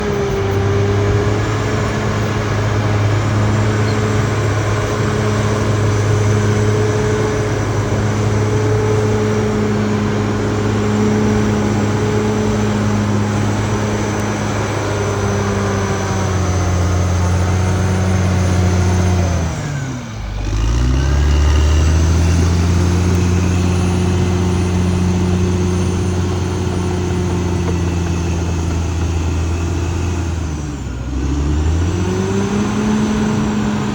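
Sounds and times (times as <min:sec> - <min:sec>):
bulldozer diesel engine under load: 0:00.0 - 0:33.9.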